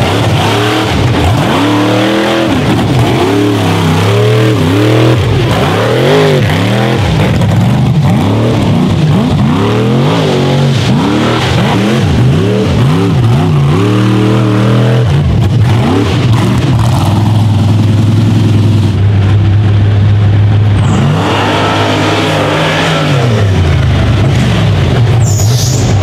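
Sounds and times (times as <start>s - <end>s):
buggy engine revving hard: 0.0s - 26.0s.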